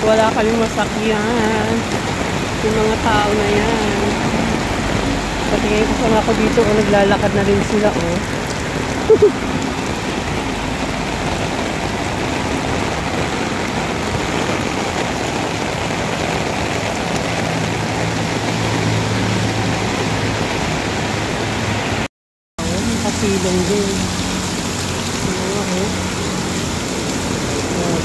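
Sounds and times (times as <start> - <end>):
heavy rain on umbrella and pavement: 0.0 - 28.0.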